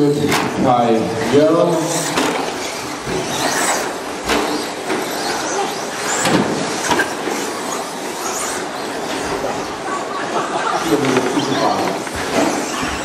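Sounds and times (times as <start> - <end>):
rc truck motors whining: 1.7 - 13.0.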